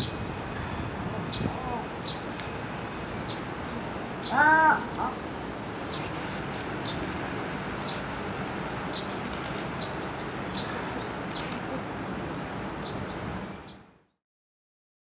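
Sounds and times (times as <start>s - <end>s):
outdoor background noise: 0.0s - 14.2s.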